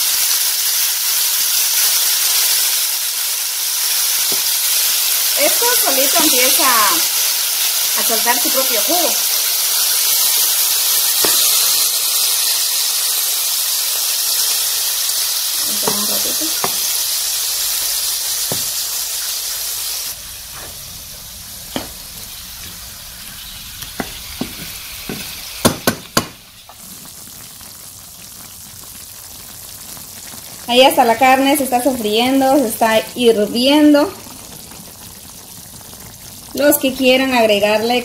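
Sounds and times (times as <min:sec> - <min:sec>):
meat sizzling in a skillet: 0:00.0 - 0:38.0.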